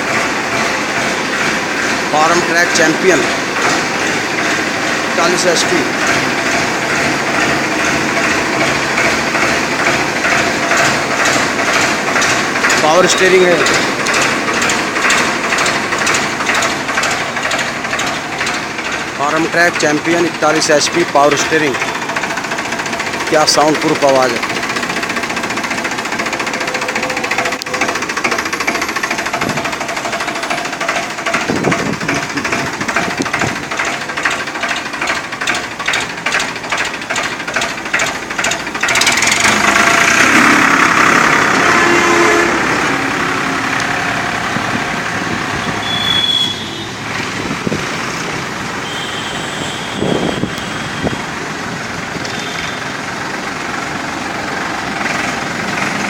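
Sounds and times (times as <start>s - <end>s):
tractor diesel engine pulsing: 0.0s - 56.0s.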